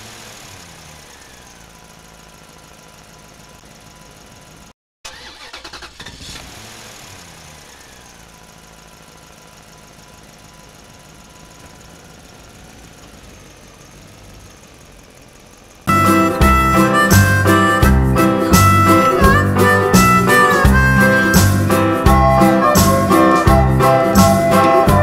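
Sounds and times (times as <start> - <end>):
engine starting and idling: 0.0 - 25.0.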